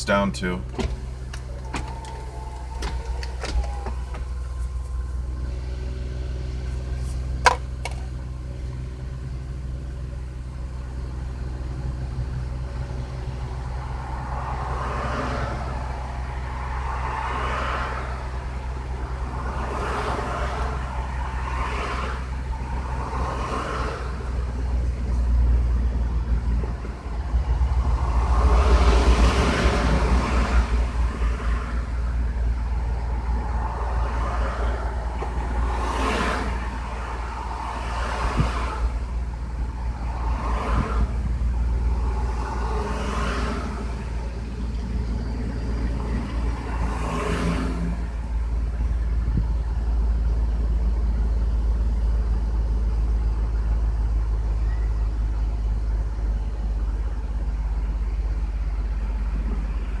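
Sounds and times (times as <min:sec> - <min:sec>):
car engine idling high: 0:00.0 - 1:00.0.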